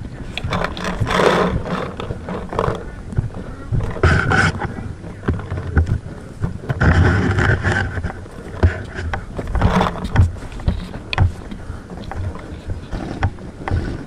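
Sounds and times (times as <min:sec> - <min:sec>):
wind rumble on microphone: 0:00.0 - 0:14.0
sharp knocks and pops: 0:00.3 - 0:14.0.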